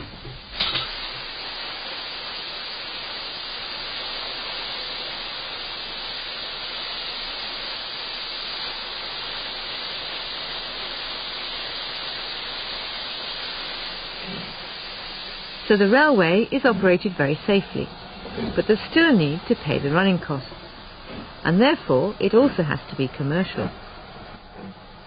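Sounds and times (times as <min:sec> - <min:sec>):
steam locomotive hissing steam: 0:00.0 - 0:25.0.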